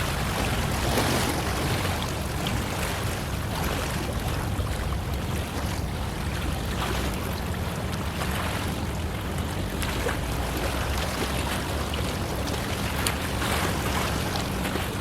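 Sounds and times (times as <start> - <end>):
sea water washing: 0.0 - 15.0.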